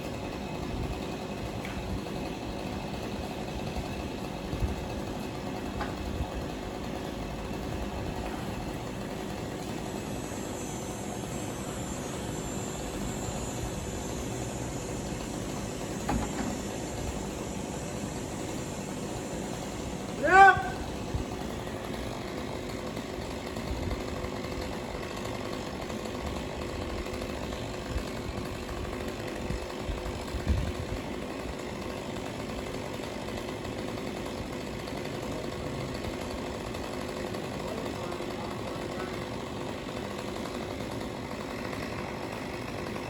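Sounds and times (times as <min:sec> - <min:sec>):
engine running steadily: 0:00.0 - 0:43.0.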